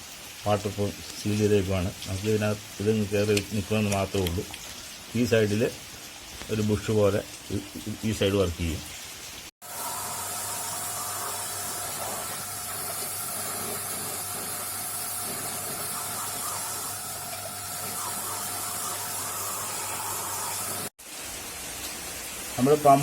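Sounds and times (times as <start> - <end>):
water spraying: 0.0 - 23.0.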